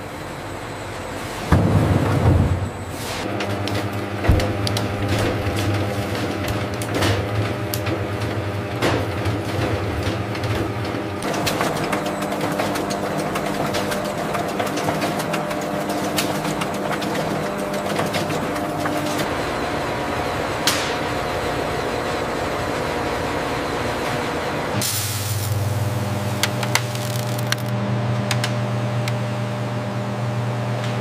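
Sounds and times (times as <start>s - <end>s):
meat grinder humming: 3.3s - 30.7s.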